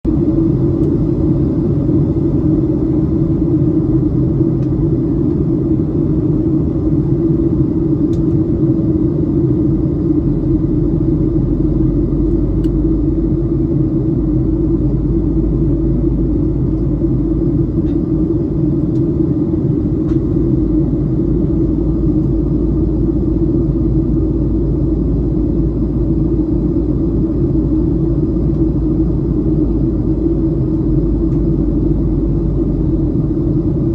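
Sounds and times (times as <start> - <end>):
airliner cabin rumble: 0.0 - 33.9.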